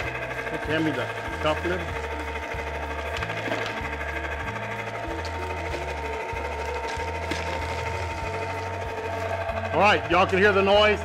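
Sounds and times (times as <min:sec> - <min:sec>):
ice cream maker motor whirring: 0:00.0 - 0:11.0.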